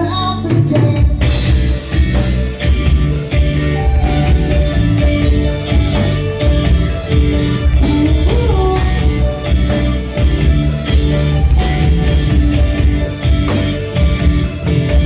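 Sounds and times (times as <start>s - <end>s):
guitar and bass notes: 0.0s - 15.0s.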